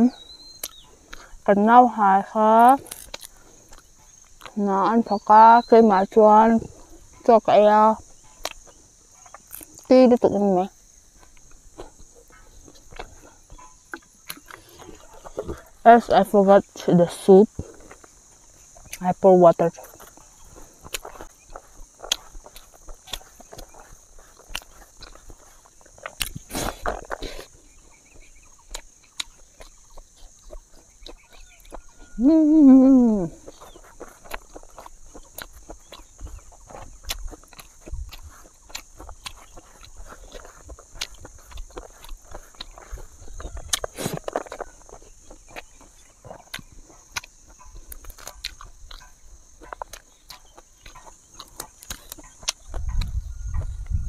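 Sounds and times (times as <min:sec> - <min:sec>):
chewing and lip smacks: 0:00.5 - 0:01.4, 0:02.6 - 0:04.6, 0:08.0 - 0:09.9, 0:11.2 - 0:15.8, 0:17.5 - 0:32.2, 0:33.3 - 0:54.0.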